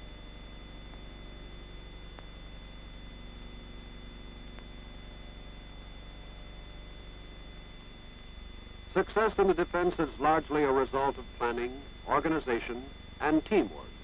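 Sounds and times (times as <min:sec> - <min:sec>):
film soundtrack hum and hiss: 0:00.0 - 0:14.0.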